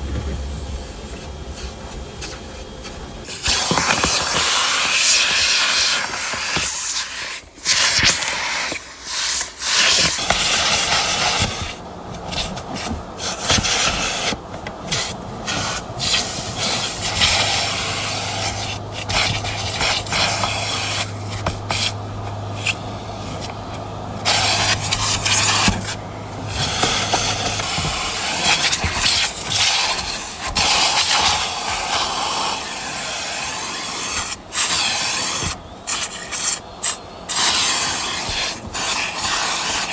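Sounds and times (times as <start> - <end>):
nozzle scraping upholstery: 0.0 - 39.9
vacuum hose sucking: 0.0 - 39.9.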